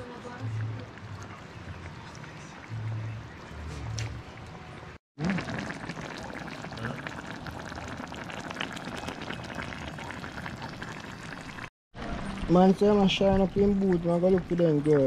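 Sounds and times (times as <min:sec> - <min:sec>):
stew bubbling and sizzling: 0:00.0 - 0:15.0.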